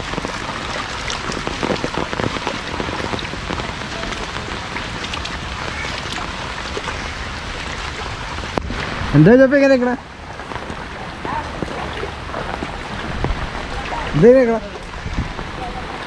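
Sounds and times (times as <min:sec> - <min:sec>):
heavy rain on water: 0:00.0 - 0:16.0
rain ticking on umbrella: 0:00.0 - 0:16.0.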